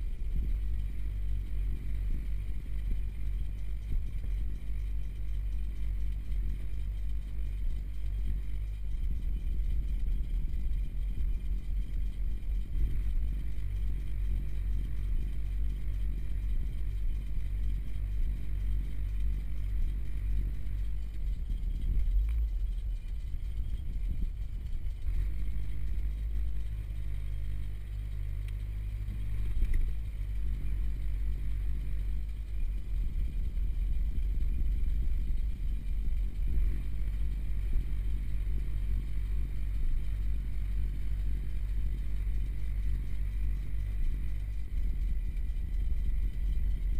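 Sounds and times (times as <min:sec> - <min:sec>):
car engine running in cabin: 0:00.0 - 0:46.9.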